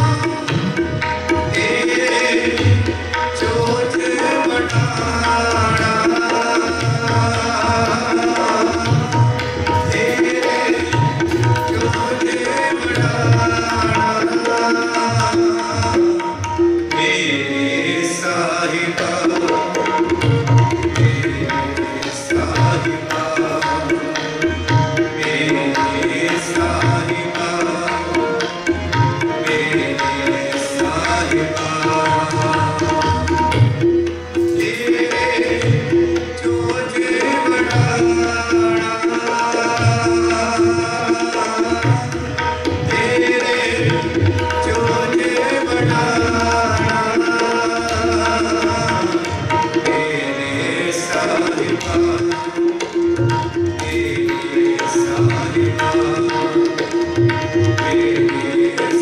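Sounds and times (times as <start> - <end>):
harmonium chords: 0.0 - 59.0
tabla drumming: 0.0 - 59.0.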